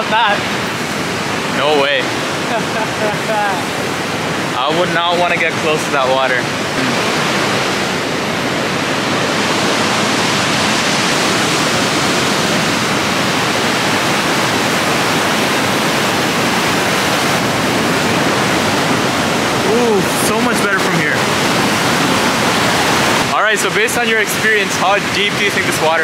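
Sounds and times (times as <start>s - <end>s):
whitewater rapids rushing: 0.0s - 26.0s.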